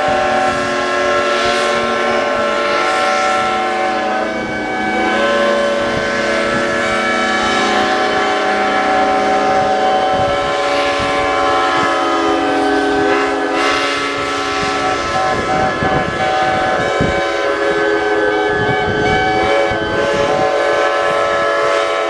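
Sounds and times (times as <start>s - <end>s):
lower whistle: 0.0s - 22.0s
steam whistles blowing: 0.0s - 22.0s.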